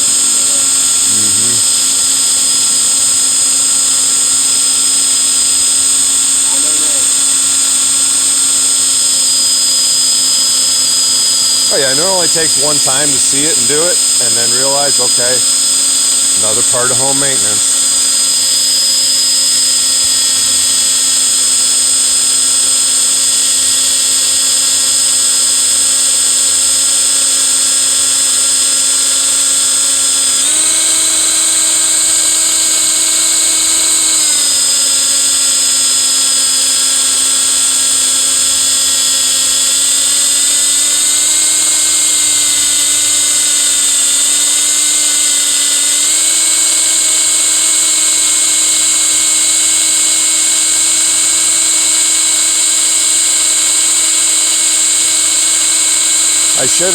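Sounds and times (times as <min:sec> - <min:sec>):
power drill motor whining: 0:00.0 - 0:56.9.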